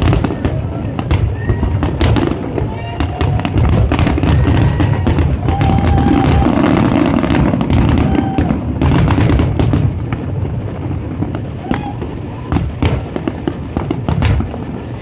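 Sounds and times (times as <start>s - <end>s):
fireworks bangs and crackling: 0.0s - 15.0s
low rumble: 0.0s - 15.0s.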